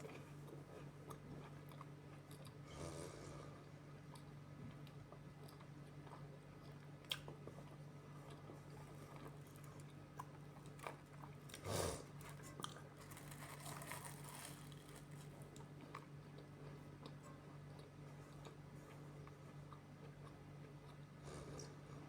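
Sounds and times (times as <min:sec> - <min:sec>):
chewing and crunching: 0:00.0 - 0:22.0.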